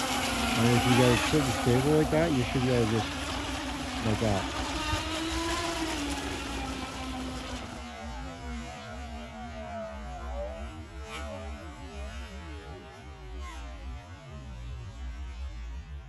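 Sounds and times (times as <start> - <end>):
electric boat motor whine: 0.0 - 15.9.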